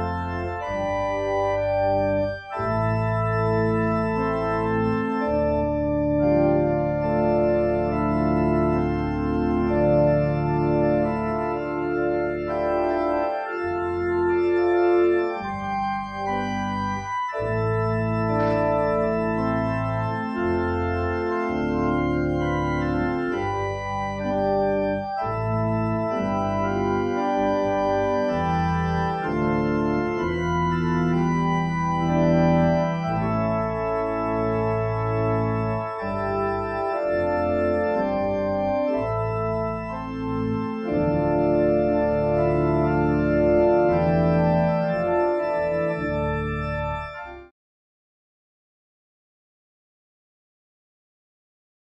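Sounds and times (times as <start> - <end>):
church organ chords: 0.0 - 47.5.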